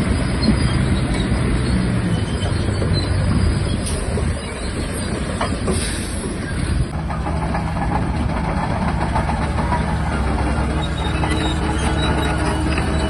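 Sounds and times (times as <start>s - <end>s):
bulldozer diesel engine running: 0.0s - 13.0s
steel tracks clanking: 0.0s - 13.0s.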